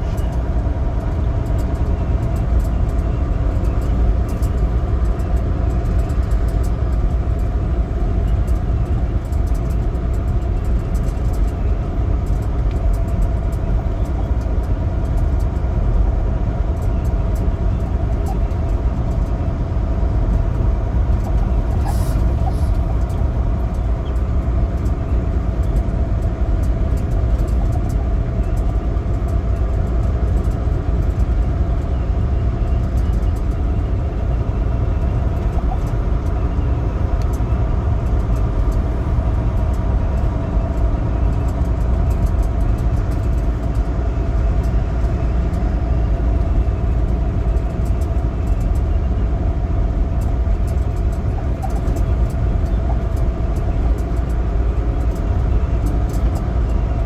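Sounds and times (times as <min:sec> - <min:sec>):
diesel truck engine drone: 0:00.0 - 0:57.0
road noise: 0:00.0 - 0:57.0.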